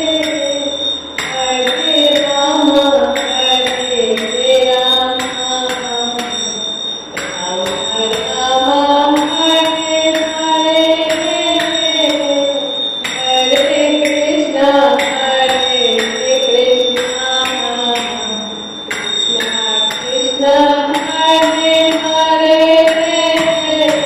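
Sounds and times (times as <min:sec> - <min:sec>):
steady ticking beat: 0:00.0 - 0:24.0.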